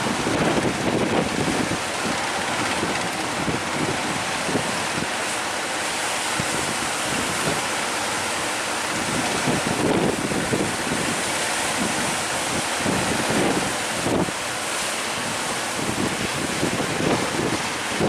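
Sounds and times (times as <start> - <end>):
sea waves and surf: 0.0 - 18.0
wind buffeting microphone: 0.0 - 18.0.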